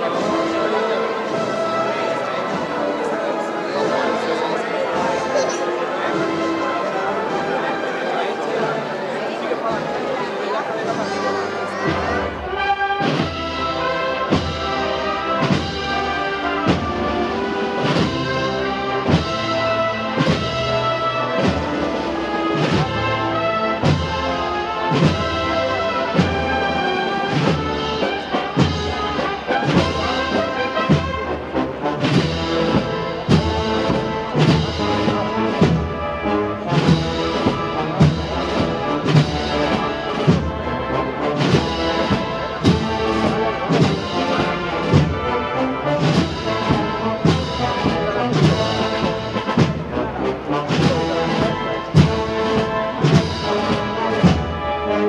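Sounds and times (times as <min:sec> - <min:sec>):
brass and woodwinds playing march: 0:00.0 - 0:55.0
steady drumbeat: 0:00.0 - 0:55.0.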